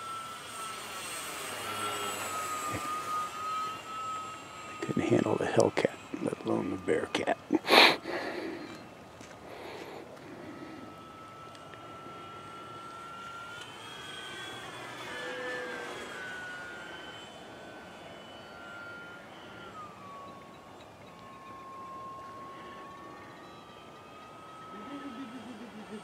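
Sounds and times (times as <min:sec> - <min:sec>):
model plane propeller whine: 0:00.0 - 0:26.0.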